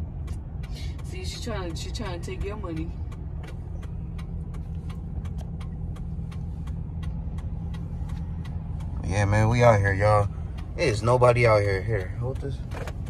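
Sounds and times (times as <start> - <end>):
rapid regular ticking: 0.0 - 13.0
truck rumble from inside cabin: 0.0 - 13.0.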